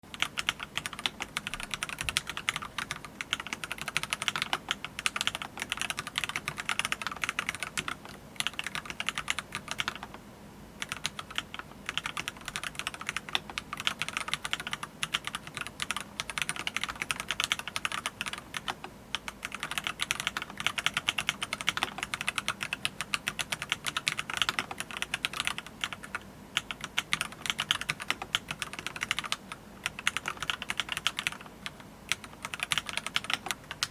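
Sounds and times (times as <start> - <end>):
mechanical keyboard typing: 0.1 - 10.2, 10.8 - 33.9.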